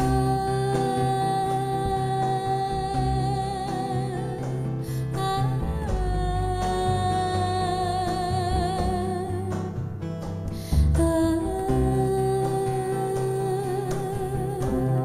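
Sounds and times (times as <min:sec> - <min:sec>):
acoustic guitar: 0:00.0 - 0:15.0
upright double bass: 0:00.0 - 0:15.0.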